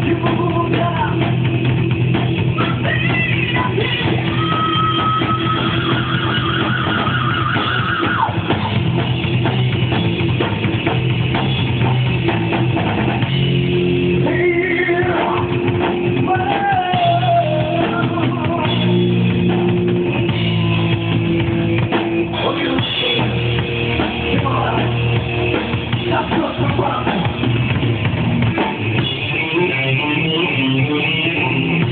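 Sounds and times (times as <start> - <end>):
drum kit: 0.0 - 31.9
electric guitar: 0.0 - 31.9.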